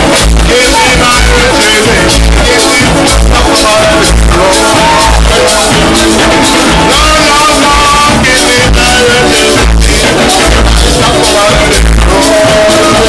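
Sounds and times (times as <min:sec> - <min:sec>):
electric bass line: 0:00.0 - 0:13.0
electric guitar: 0:00.0 - 0:13.0
live rake-and-scrape band music: 0:00.0 - 0:13.0.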